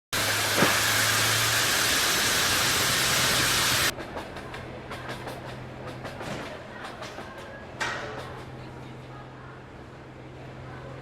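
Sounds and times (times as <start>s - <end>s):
rail noise with clicks: 0.2s - 9.2s
train rushing with low hum: 0.2s - 11.0s.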